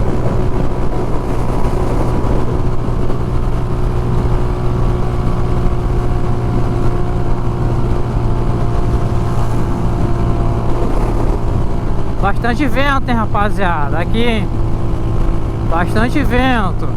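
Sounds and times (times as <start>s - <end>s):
motorcycle engine drone: 0.0s - 16.9s
wind buffeting on microphone: 0.0s - 16.9s.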